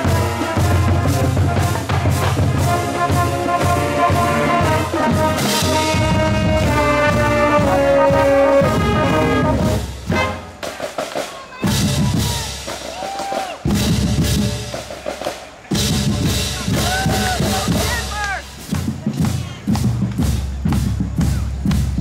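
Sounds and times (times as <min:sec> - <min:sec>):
brass band chords: 0:00.0 - 0:13.0, 0:13.6 - 0:22.0
marching drums: 0:00.0 - 0:22.0.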